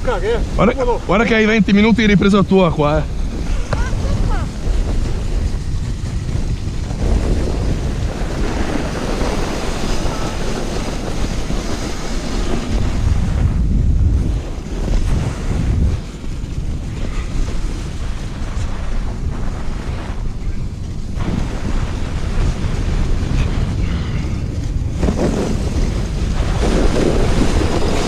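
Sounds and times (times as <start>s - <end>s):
toboggan sliding on snow: 0.0s - 28.0s
wind on microphone: 0.0s - 28.0s.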